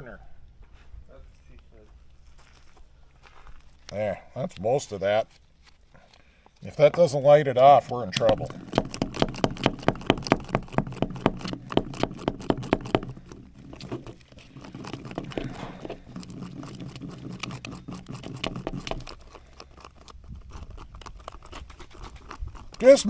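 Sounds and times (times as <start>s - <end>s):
metal scraping inside a paper cup: 4.3s - 23.0s.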